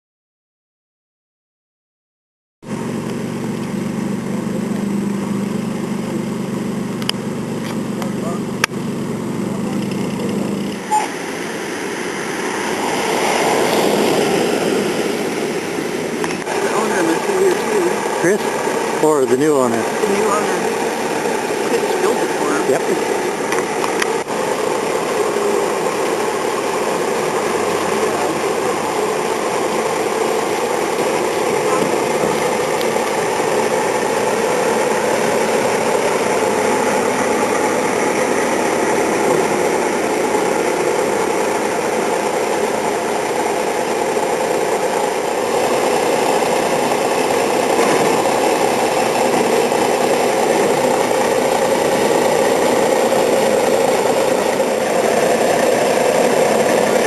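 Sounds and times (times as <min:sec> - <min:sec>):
engine droning steadily: 0:02.6 - 0:57.0.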